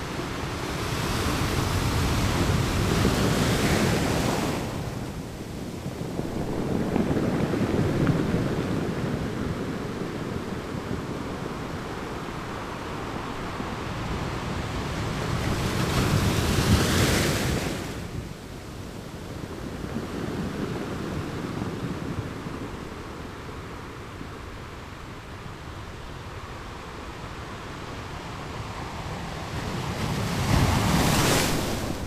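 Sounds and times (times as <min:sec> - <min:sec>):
wind on the microphone: 0:00.0 - 0:32.0.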